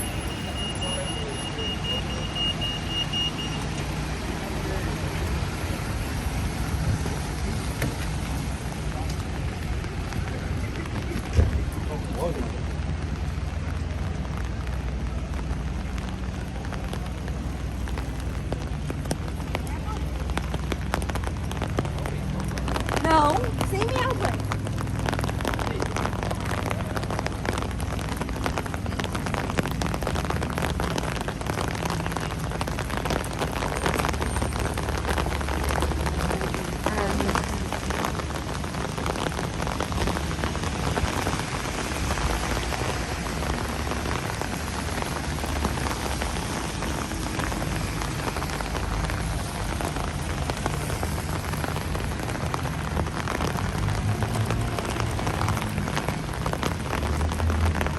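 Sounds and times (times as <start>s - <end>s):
rain pattering on street: 0.0s - 57.9s.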